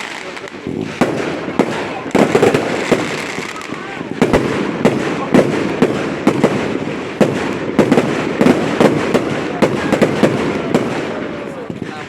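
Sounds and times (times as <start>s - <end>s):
fireworks bangs: 0.0s - 12.0s
fireworks crackle: 0.0s - 12.0s.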